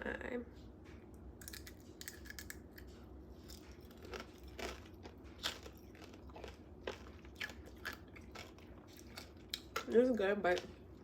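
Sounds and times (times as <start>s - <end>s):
candy shell crunching: 1.4s - 11.0s.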